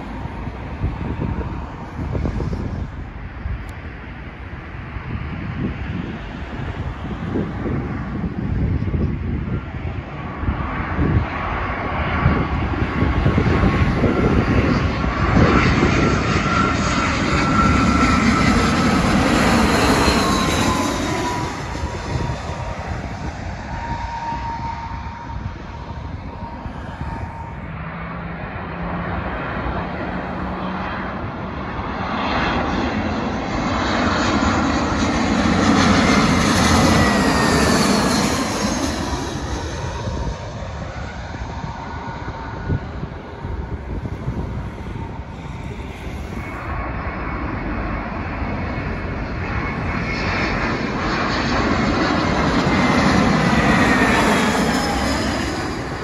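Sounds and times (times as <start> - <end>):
jet airliner passing overhead: 0.0 - 56.0.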